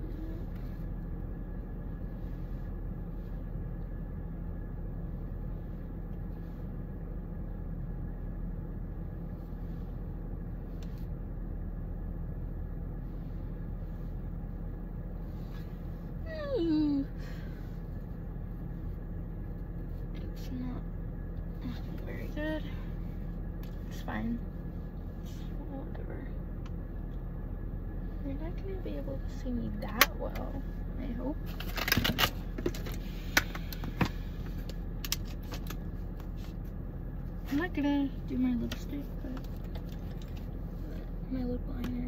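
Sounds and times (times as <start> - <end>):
low hum inside car cabin: 0.0 - 42.0.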